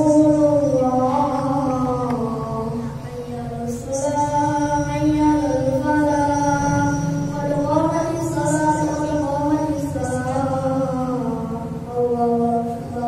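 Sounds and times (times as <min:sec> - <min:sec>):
person chanting: 0:00.0 - 0:13.0.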